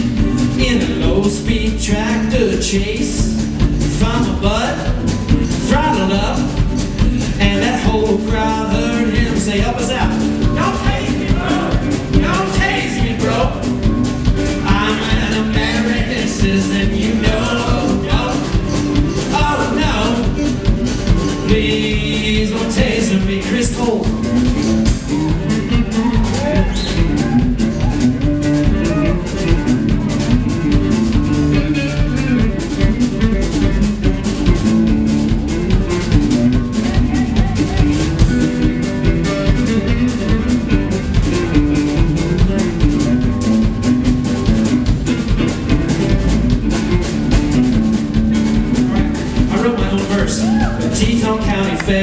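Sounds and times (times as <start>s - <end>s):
drum kit steady beat: 0.0s - 52.0s
live band playing instrumental: 0.0s - 52.0s.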